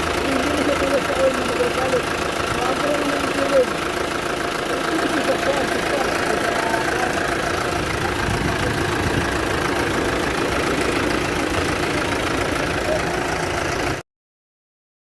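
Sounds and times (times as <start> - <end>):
diesel engine idling with knock: 0.0 - 14.0.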